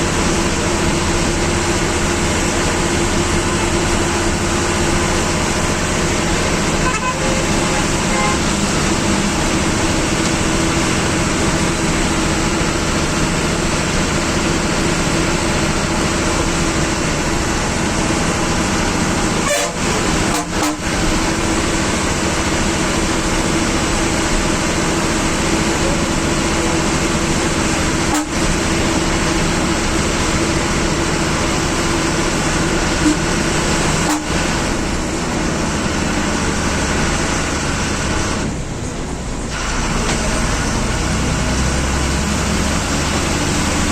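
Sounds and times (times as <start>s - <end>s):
bus engine running: 0.0s - 43.9s
road noise rumble: 0.0s - 43.9s.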